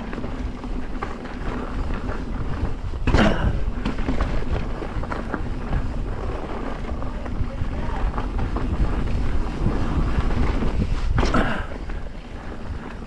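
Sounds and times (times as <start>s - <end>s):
bike rattling over bumps: 0.0s - 13.0s
tyres running over dirt: 0.0s - 13.0s
wind rumbling on microphone: 0.0s - 13.0s.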